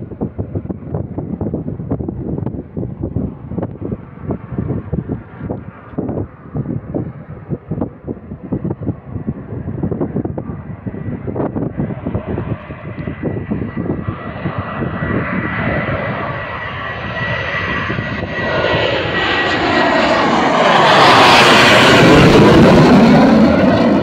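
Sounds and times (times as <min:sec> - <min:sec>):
jet passing overhead: 0:00.0 - 0:24.0
wind buffeting microphone: 0:00.0 - 0:24.0.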